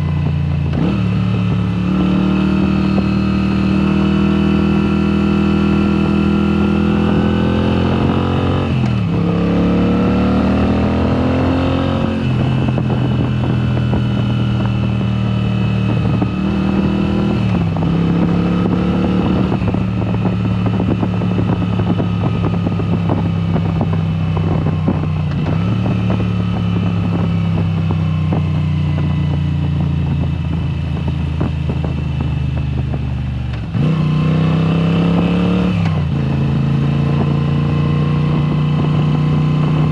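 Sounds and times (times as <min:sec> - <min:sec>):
loud motorcycle engine accelerating: 0:00.0 - 0:39.9.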